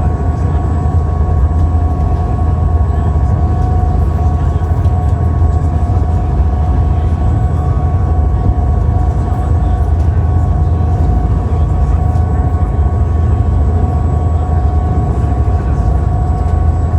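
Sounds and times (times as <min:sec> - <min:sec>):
constant whining tones: 0:00.0 - 0:16.9
vehicle engine low rumble: 0:00.0 - 0:16.9.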